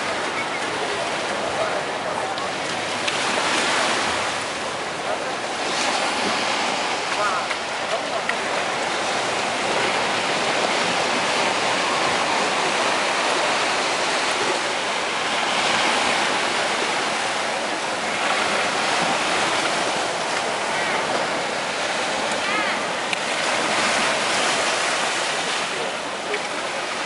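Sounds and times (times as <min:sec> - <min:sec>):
surf breaking on beach: 0:00.0 - 0:27.0.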